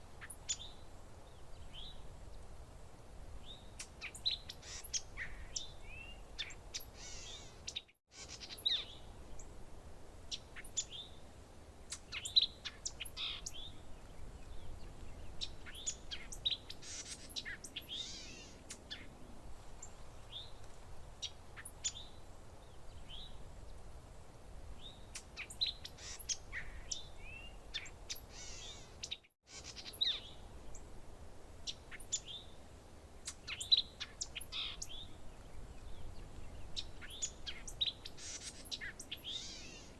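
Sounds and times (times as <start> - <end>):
low steady background hiss: 0.0 - 39.9
songbirds chirping: 0.0 - 39.9.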